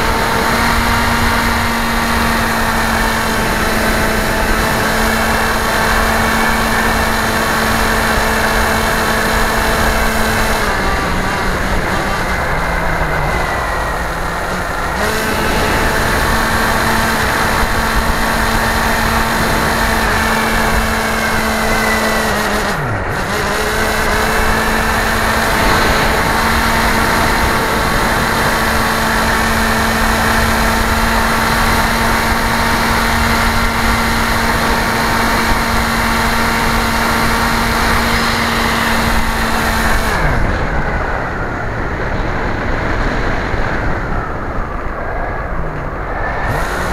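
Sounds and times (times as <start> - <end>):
model aircraft motor whine: 0.0 - 41.6
wind rush: 0.0 - 46.9.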